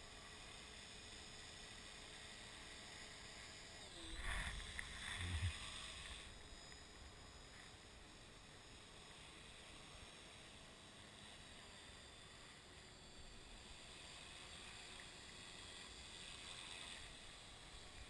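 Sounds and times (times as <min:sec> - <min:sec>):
distant model helicopter rotor: 0:00.0 - 0:18.0.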